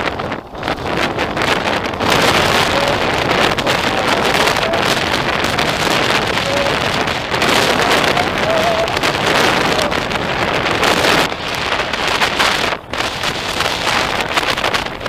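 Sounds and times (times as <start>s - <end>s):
wind blasting microphone: 0.0s - 15.0s.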